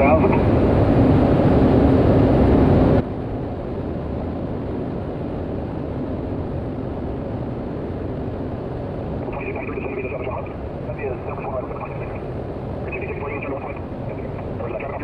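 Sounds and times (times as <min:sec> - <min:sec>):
turboprop cockpit drone: 0:00.0 - 0:15.0.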